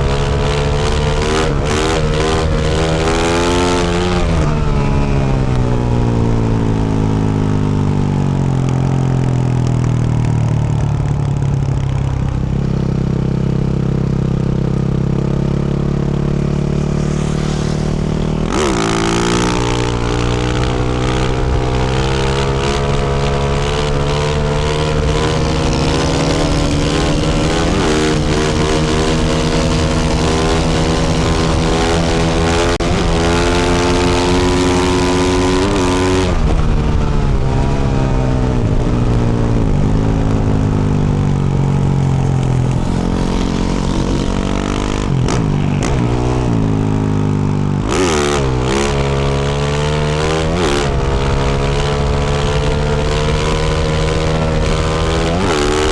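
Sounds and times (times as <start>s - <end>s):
motorcycle engine revving under load: 0.0s - 55.9s.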